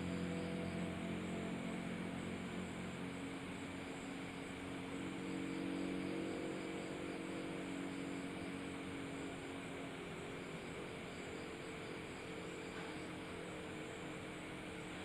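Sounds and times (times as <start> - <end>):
constant hiss: 0.0 - 15.0
engine drone: 0.0 - 15.0.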